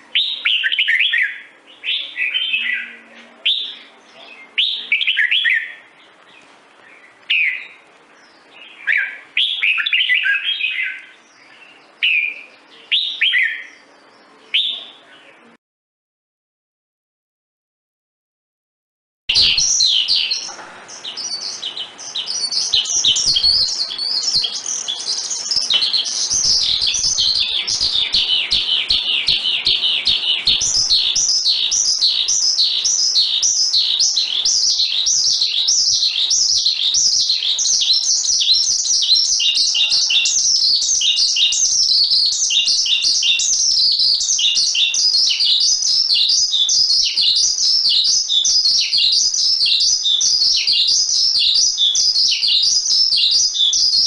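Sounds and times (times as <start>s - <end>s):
songbird singing high chirps: 0.0s - 15.6s, 19.3s - 54.0s.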